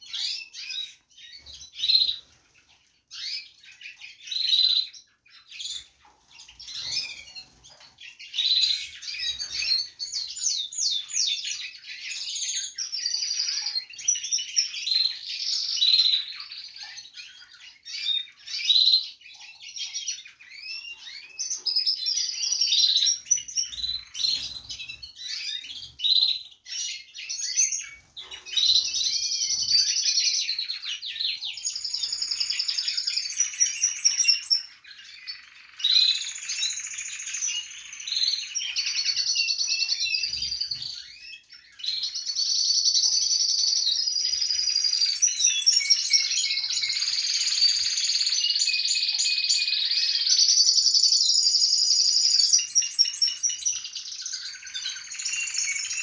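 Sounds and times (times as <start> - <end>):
canaries chirping and trilling: 0.0 - 56.0.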